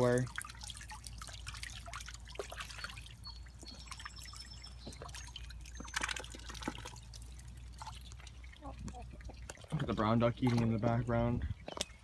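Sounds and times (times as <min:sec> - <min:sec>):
duck splashing in water: 0:00.0 - 0:09.8.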